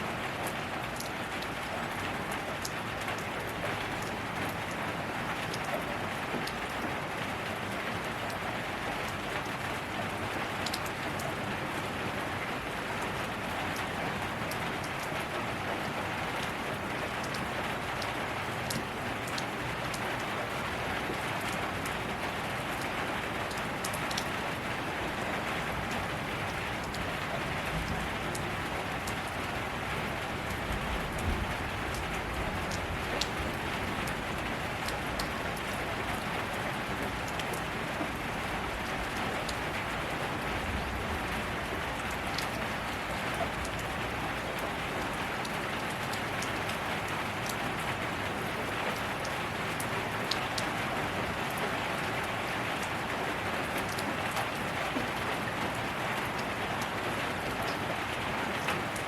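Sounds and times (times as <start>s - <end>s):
steady rain hiss: 0.0s - 59.0s
raindrop ticks: 0.2s - 59.0s.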